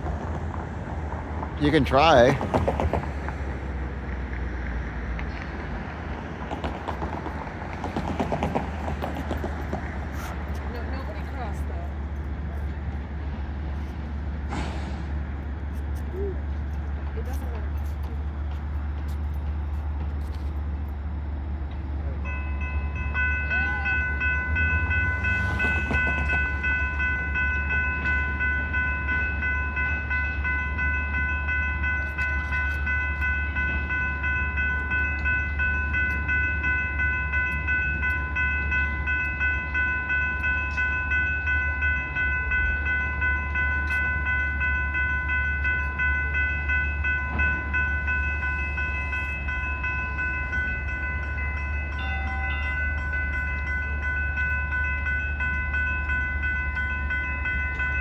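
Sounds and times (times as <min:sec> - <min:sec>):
train low hum: 0:00.0 - 0:58.0.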